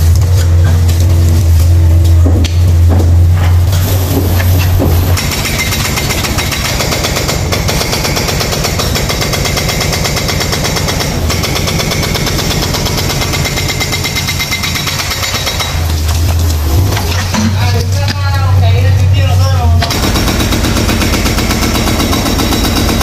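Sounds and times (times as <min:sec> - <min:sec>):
hydraulic breaker hammering concrete: 0:02.2 - 0:18.4, 0:19.8 - 0:23.0.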